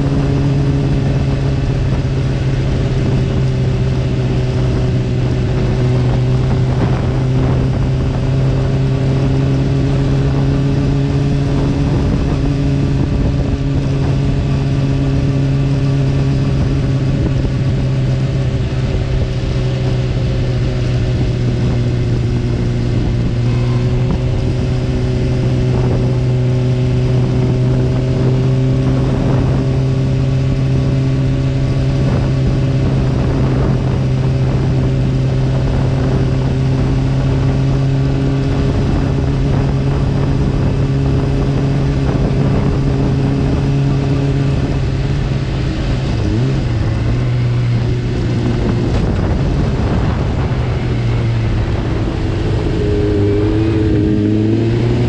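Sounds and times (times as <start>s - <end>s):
motorcycle engine running: 0.0s - 55.0s
wind rushing over camera: 0.0s - 55.0s.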